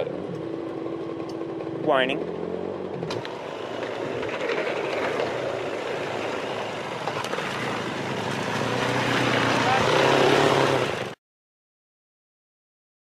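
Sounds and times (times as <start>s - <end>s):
motorcycle riding noise: 0.0s - 11.2s.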